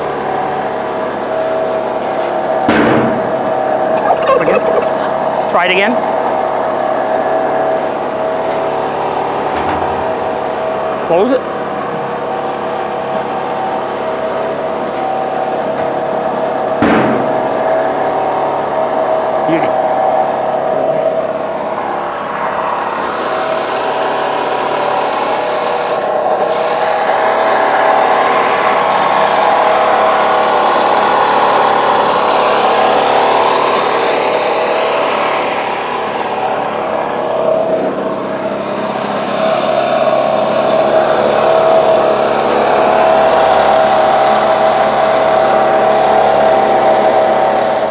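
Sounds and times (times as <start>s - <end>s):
spit motor droning whine: 0.0s - 47.9s.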